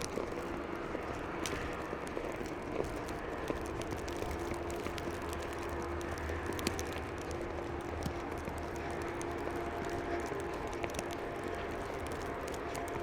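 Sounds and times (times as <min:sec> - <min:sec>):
faint constant hum: 0:00.0 - 0:13.0
light clicks and crunches: 0:00.0 - 0:13.0.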